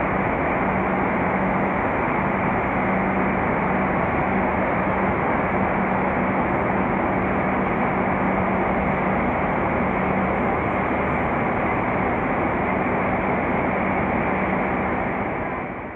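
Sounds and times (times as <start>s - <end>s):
constant low hum: 0.0s - 15.9s.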